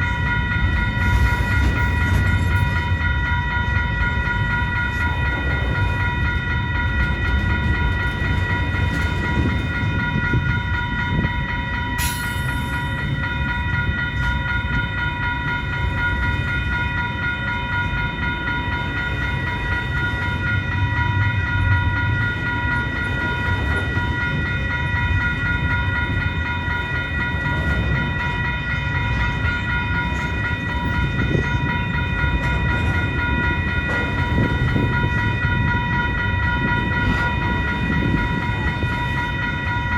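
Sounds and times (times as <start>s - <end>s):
constant high whine: 0.0s - 39.9s
freight train rolling on rails: 0.0s - 39.9s.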